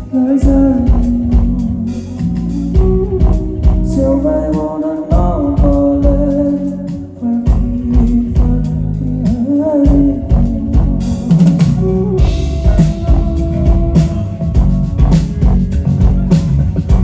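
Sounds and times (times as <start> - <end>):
drum kit beating: 0.0 - 17.0
guitar and bass notes: 0.0 - 17.0.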